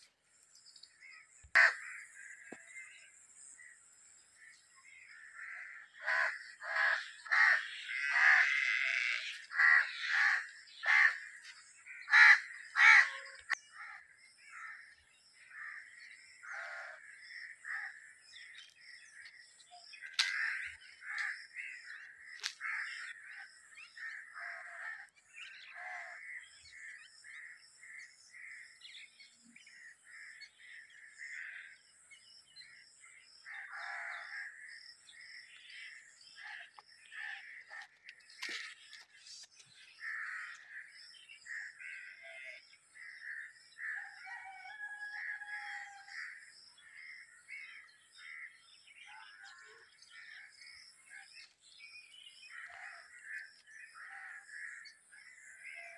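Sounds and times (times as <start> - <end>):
crows cawing: 1.5 - 2.7, 4.9 - 28.8, 30.0 - 31.9, 33.4 - 39.1, 39.8 - 48.6, 52.4 - 55.9.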